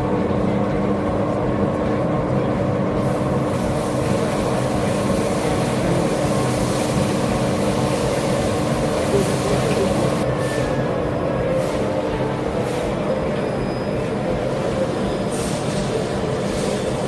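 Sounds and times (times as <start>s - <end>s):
exhibition hall din: 0.0s - 17.0s
steady machine hum: 0.0s - 17.0s.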